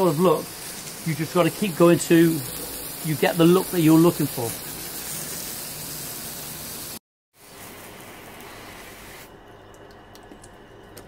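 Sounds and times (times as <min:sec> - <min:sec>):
hose spray nozzle hissing: 0:00.0 - 0:09.3.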